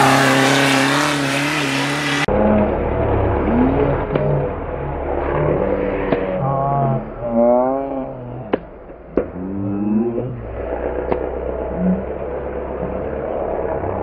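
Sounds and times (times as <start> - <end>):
buggy engine revving: 0.0 - 14.0.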